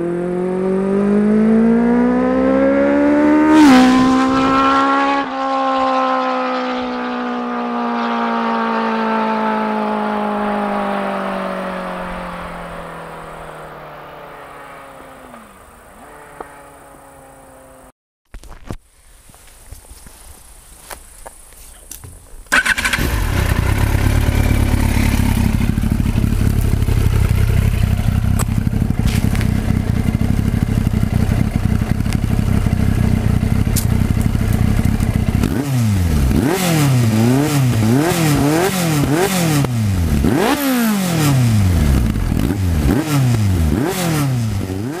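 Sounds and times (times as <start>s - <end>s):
motorcycle engine starting and revving: 0.0s - 17.9s, 22.4s - 45.0s.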